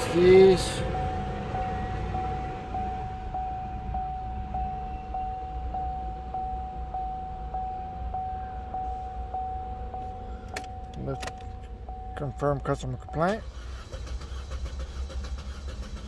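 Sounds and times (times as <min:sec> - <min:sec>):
low steady rumble: 0:00.0 - 0:16.0
electronic warning beeps: 0:00.3 - 0:13.4.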